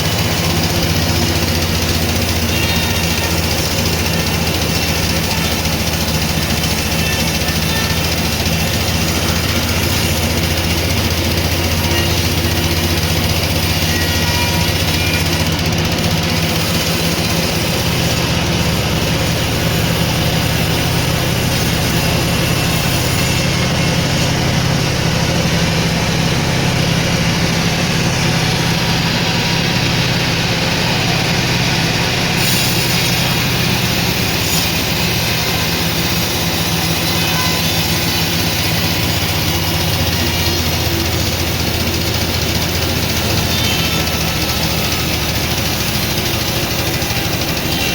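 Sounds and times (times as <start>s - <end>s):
sawmill machinery humming: 0.0s - 47.9s.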